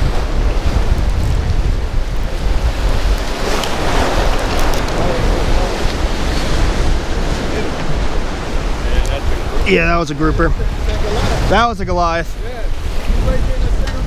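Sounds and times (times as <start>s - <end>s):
surf and waves rushing: 0.0s - 14.0s
wind buffeting microphone: 0.0s - 14.0s.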